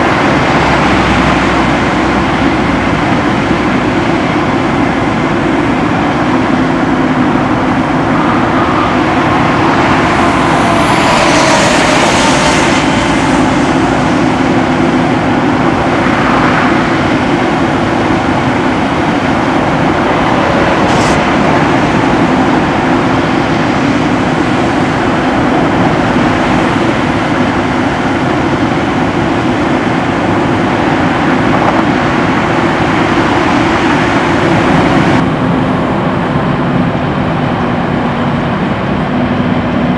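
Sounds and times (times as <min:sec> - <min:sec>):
diesel engine droning: 0:00.0 - 0:39.9
rush of noise: 0:00.0 - 0:39.9.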